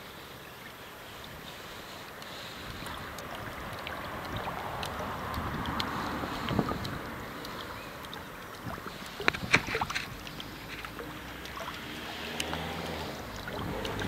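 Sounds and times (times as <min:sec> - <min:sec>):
stream water splashing: 0:00.0 - 0:14.0
water turbine paddles turning: 0:00.0 - 0:14.0.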